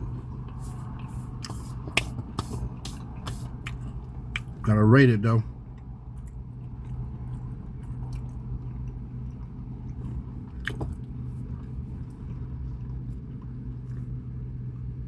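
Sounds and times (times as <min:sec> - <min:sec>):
person chewing food: 0:00.0 - 0:04.6, 0:05.6 - 0:14.9
steady low hum: 0:00.0 - 0:15.0.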